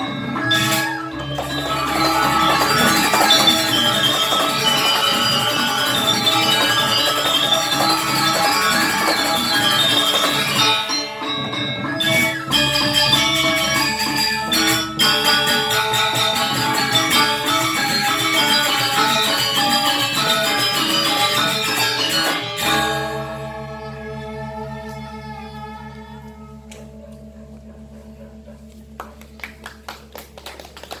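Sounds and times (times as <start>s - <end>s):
gamelan ensemble playing: 0.0s - 28.0s.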